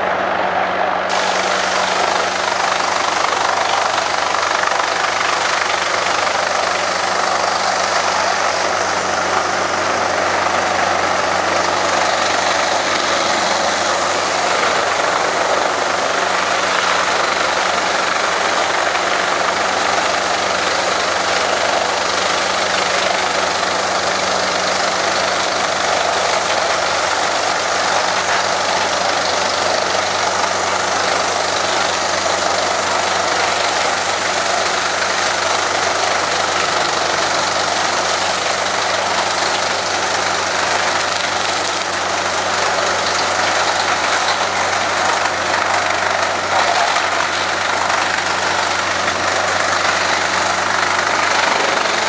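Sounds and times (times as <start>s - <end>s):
wood chipper chipping logs: 0.0s - 52.0s.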